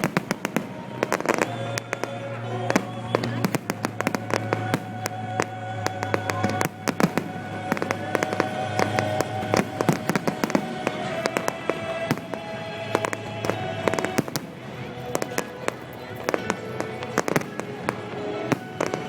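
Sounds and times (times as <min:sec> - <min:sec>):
fireworks bangs and crackles: 0:00.0 - 0:19.0
music with long held notes: 0:00.0 - 0:19.0.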